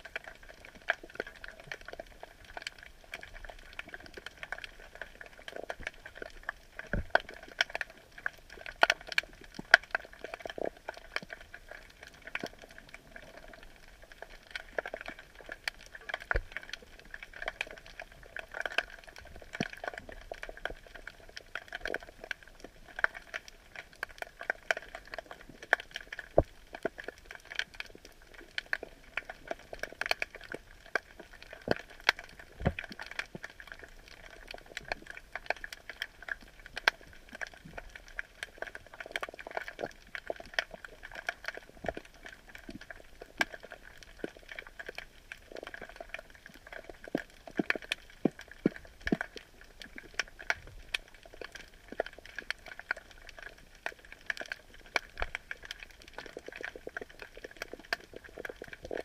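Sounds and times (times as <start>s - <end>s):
underwater clicks crackling: 0.0s - 59.0s.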